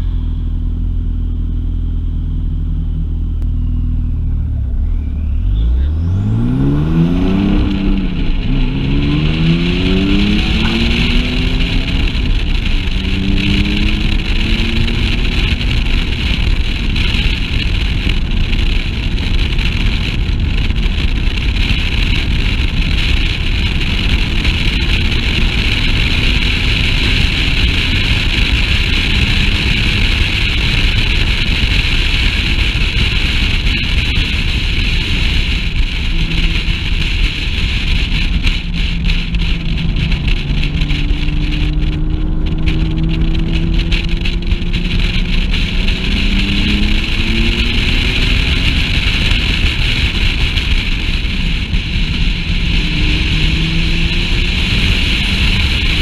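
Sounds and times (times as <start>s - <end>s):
road noise: 0.0s - 56.0s
sports car engine accelerating: 0.0s - 56.0s
wind buffeting microphone: 4.2s - 56.0s.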